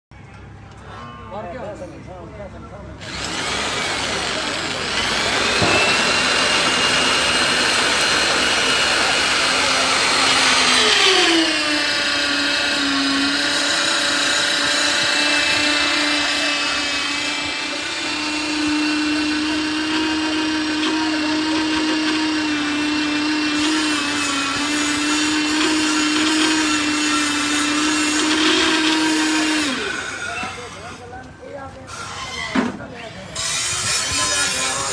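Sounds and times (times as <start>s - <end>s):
small motor whining: 3.0s - 31.2s, 31.8s - 34.9s.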